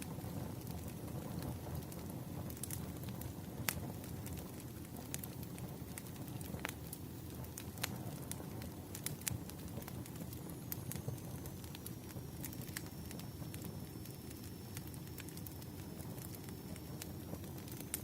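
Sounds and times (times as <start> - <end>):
firewood crackling and popping: 0.0 - 18.0
low rumble of flames: 0.0 - 18.0.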